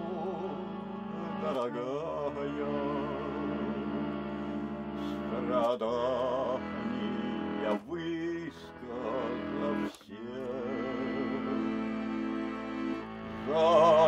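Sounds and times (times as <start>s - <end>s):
man singing with vibrato: 0.0s - 4.2s, 5.1s - 12.0s, 13.3s - 14.0s
accordion chords: 0.0s - 14.0s.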